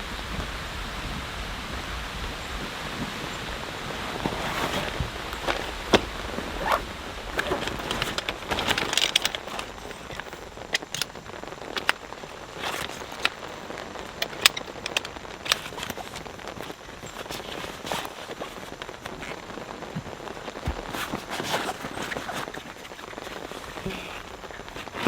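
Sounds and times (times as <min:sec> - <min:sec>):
raindrops ticking on surfaces: 0:04.9 - 0:25.0.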